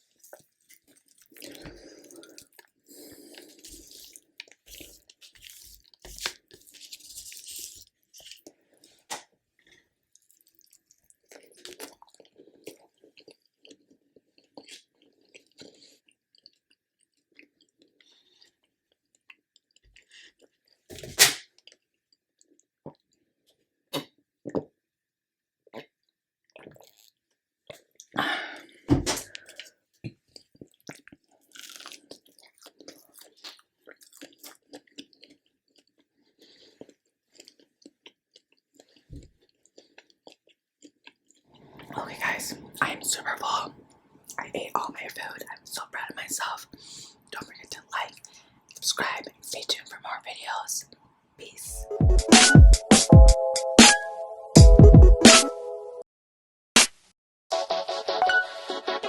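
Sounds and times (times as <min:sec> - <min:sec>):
chewing and wet mouth noises: 0:00.0 - 0:20.9, 0:21.5 - 0:24.2, 0:25.7 - 0:28.2, 0:29.3 - 0:51.8.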